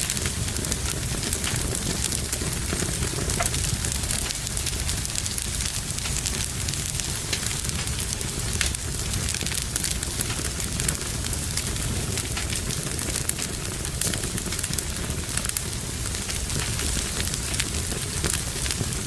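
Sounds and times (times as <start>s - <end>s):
fire crackling in fireplace: 0.0s - 19.0s.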